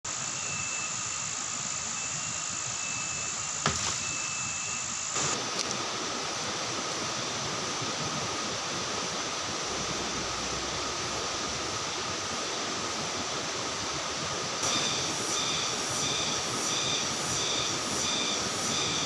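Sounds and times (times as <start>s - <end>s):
forest insect chorus: 0.1s - 19.0s
hiss: 0.1s - 19.0s.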